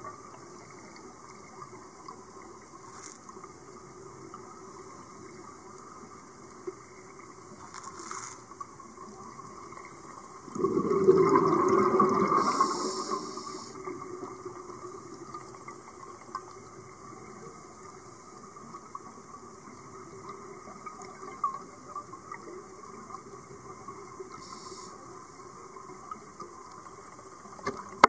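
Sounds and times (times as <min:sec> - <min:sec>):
muffled underwater hiss: 0:00.0 - 0:28.0.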